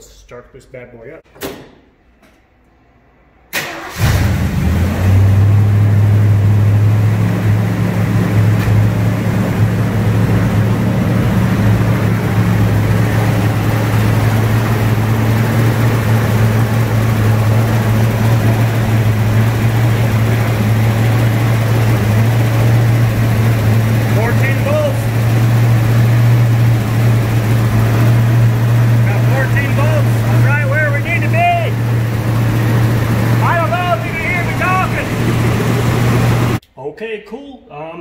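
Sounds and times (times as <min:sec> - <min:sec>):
car engine starting and idling: 0:03.4 - 0:36.6.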